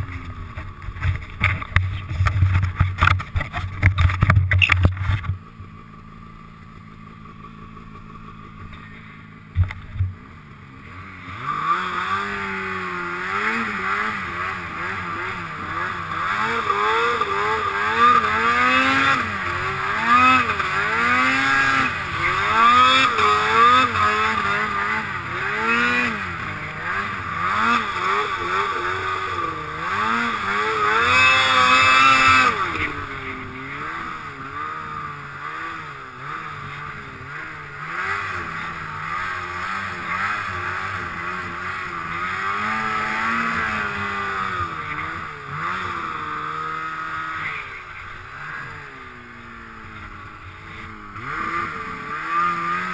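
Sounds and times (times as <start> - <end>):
snowmobile engine revving: 10.1 - 52.9.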